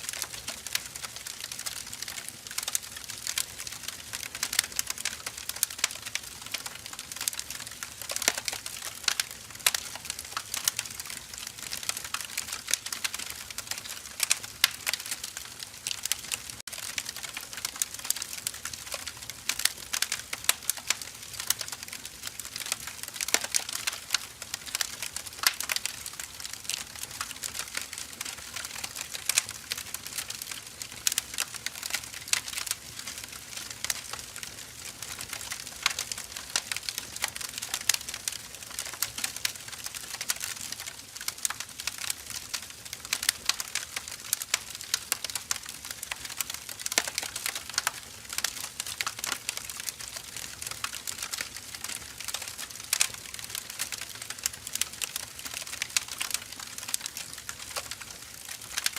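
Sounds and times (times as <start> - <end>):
firewood crackling: 0.0 - 58.9.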